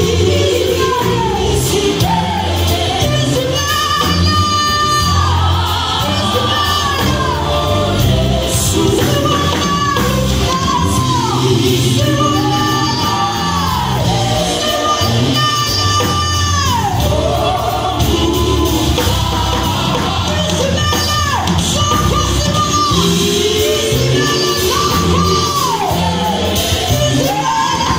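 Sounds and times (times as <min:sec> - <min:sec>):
band accompaniment: 0:00.0 - 0:27.9
bass line: 0:00.0 - 0:27.9
vocal group singing: 0:00.0 - 0:27.9.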